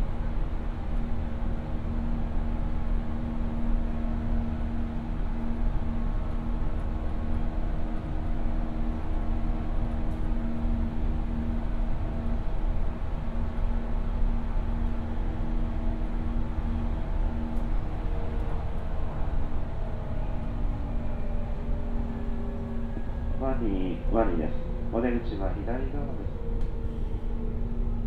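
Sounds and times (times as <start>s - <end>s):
constant low hum: 0.0s - 28.0s
train wheels rumbling on rails: 0.0s - 28.0s.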